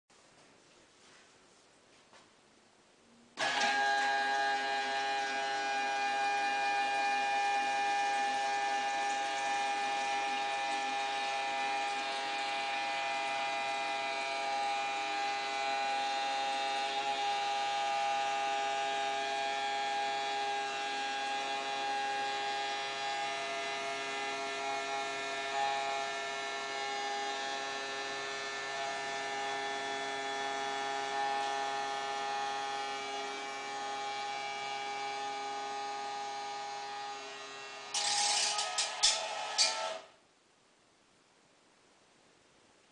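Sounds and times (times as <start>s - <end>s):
electric bilge pumps whining: 3.4s - 40.1s.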